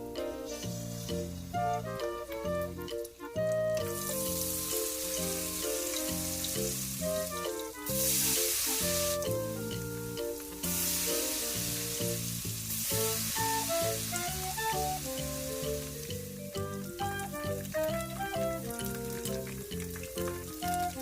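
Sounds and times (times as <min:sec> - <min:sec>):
background music: 0:00.0 - 0:21.0
food sizzling in hot oil: 0:00.1 - 0:02.4, 0:03.8 - 0:21.0.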